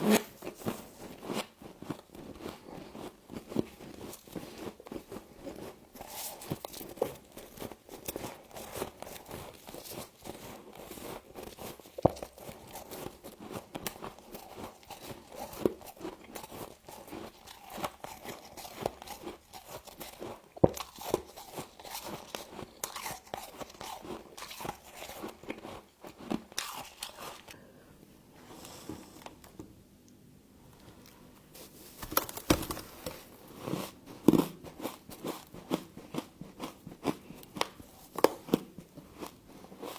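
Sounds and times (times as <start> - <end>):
frost being bitten and chewed: 0.4 - 27.6, 33.6 - 39.9.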